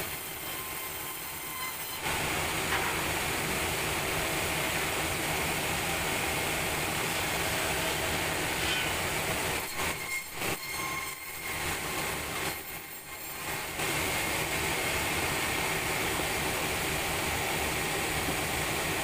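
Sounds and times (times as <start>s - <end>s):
band saw running: 0.0s - 19.0s.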